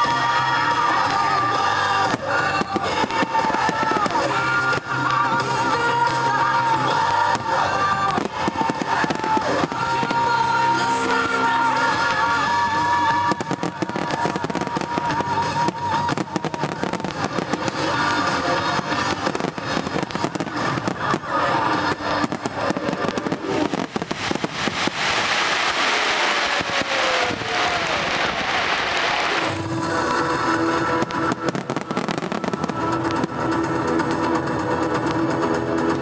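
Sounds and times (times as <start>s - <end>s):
fireworks bursting and crackling: 0.0s - 36.0s
music playing: 0.0s - 36.0s.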